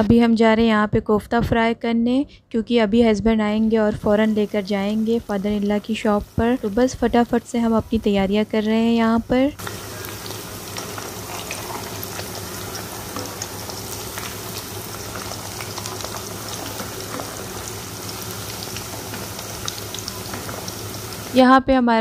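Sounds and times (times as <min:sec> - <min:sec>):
food deep-frying in oil: 0:03.5 - 0:21.4.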